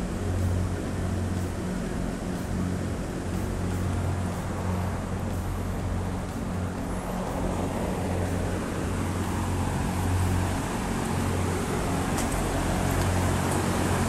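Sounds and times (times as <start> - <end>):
mechanical hum: 0.0 - 14.0
noisy wash: 0.0 - 14.0.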